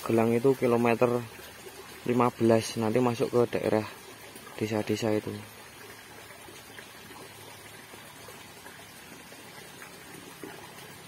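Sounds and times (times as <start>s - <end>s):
stream trickling over stones: 0.0s - 11.0s.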